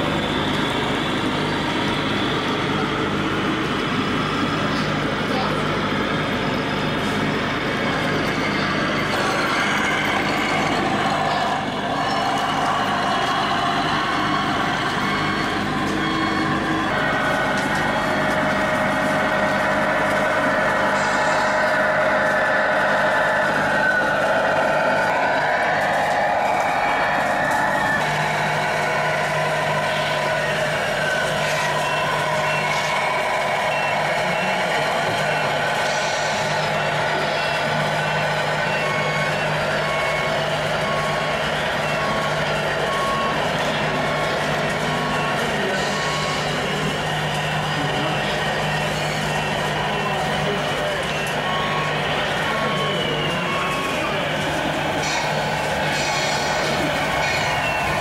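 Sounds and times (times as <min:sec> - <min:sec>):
model truck engine: 0:00.0 - 0:58.0.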